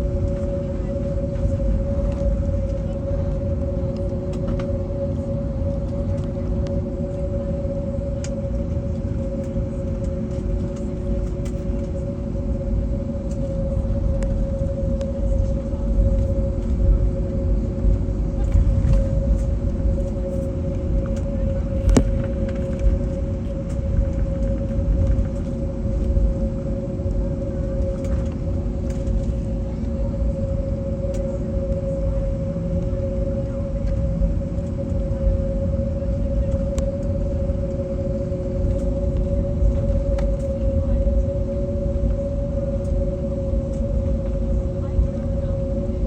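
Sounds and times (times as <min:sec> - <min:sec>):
aircraft cabin engine hum: 0:00.0 - 0:46.0.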